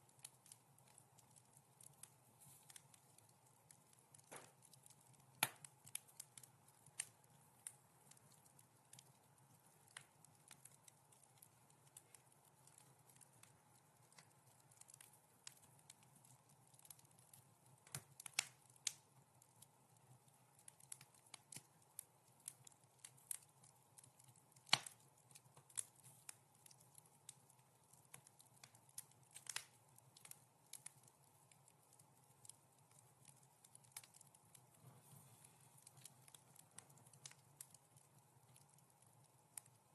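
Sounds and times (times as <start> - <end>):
faint steady hum: 0.0 - 39.9
wood fire crackling softly: 0.0 - 39.9.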